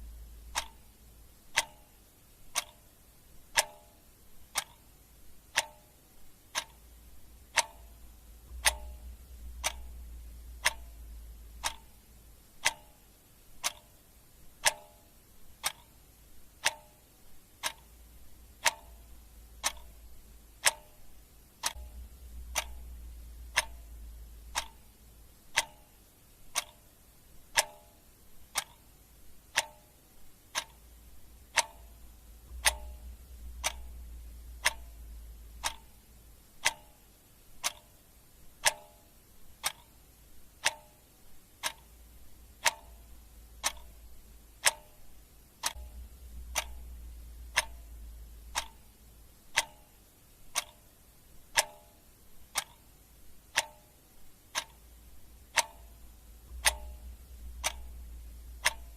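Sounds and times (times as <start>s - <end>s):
clock ticking: 0.0s - 58.9s.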